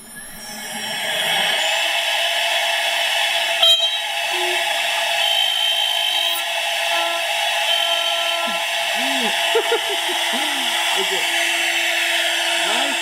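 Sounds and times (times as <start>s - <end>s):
router spindle whine cutting wood: 0.0s - 13.0s.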